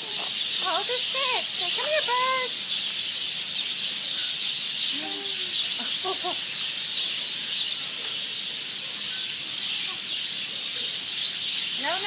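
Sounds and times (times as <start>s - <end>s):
small birds chattering: 0.0s - 12.0s.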